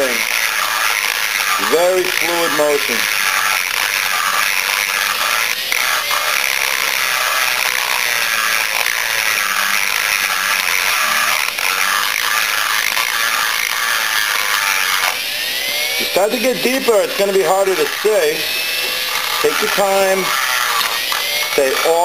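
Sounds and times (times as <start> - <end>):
rotary grinder whining: 0.0 - 22.0.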